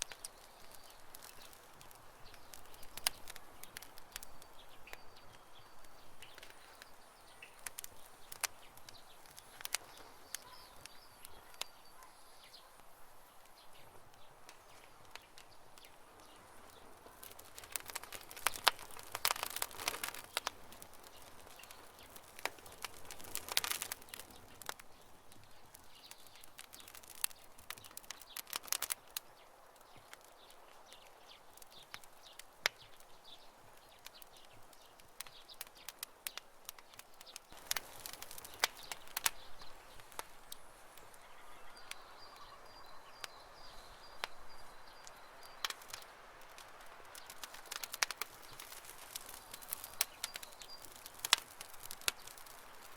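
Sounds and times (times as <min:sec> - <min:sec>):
campfire crackling and popping: 0:00.0 - 0:52.9
faint bird chirping: 0:00.0 - 0:52.9.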